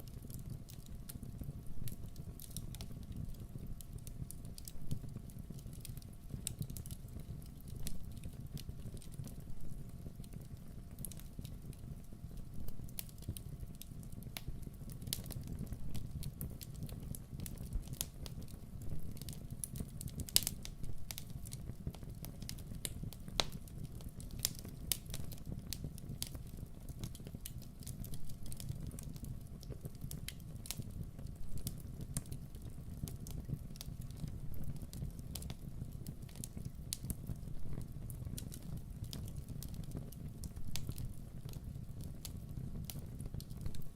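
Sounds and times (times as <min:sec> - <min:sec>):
campfire crackling and popping: 0:00.0 - 0:43.9
low rumble of burning fire: 0:00.0 - 0:43.9.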